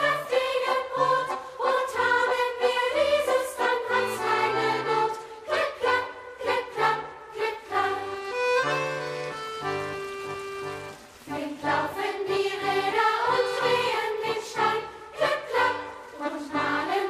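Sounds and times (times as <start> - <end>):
choir singing with music: 0.0 - 17.0.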